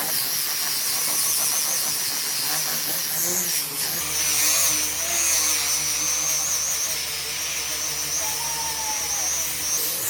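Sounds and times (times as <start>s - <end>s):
electric power tool whining: 0.0s - 10.0s.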